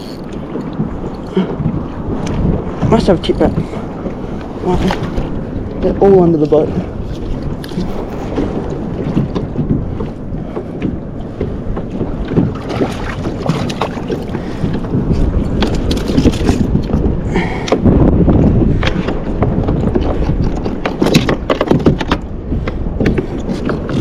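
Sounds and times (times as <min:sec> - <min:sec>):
water slapping against a hull: 0:00.0 - 0:24.0
wind buffeting microphone: 0:00.0 - 0:24.0.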